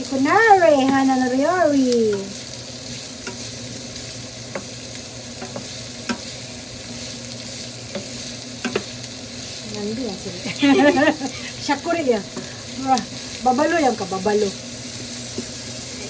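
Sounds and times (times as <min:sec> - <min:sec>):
onions sizzling in a frying pan: 0:00.0 - 0:16.0.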